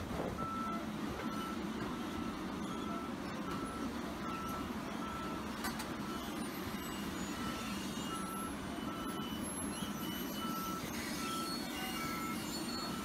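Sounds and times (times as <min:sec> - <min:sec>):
excavator diesel engine running: 0:00.0 - 0:13.0
travel alarm beeping: 0:00.4 - 0:13.0.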